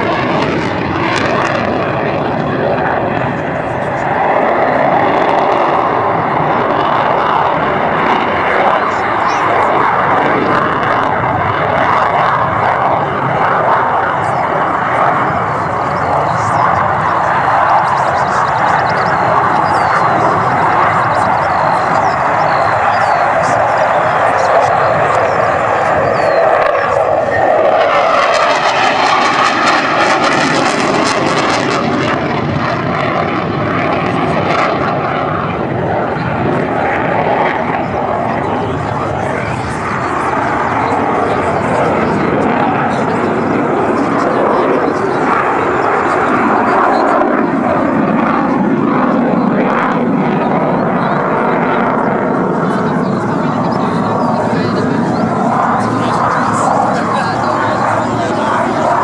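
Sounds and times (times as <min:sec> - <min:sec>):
jet fighter flying: 0:00.0 - 0:59.0.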